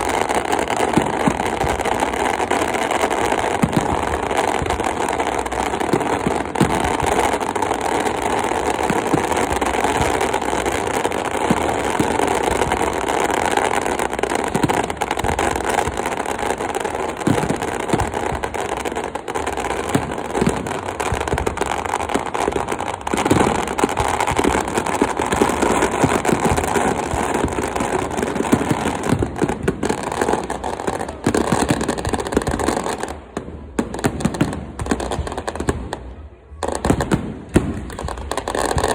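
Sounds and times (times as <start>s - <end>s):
fireworks crackling and popping: 0.0s - 38.9s.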